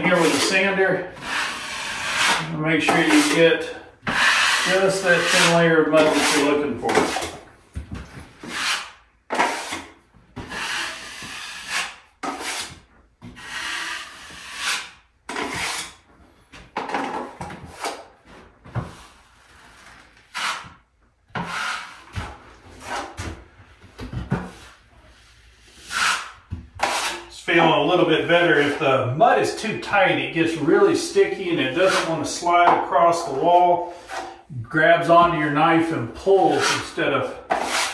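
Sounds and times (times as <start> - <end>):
drywall knife scraping: 0.0 - 7.5, 8.3 - 16.1, 16.8 - 18.1, 18.7 - 23.4, 24.0 - 28.9, 29.5 - 34.5, 35.1 - 37.9.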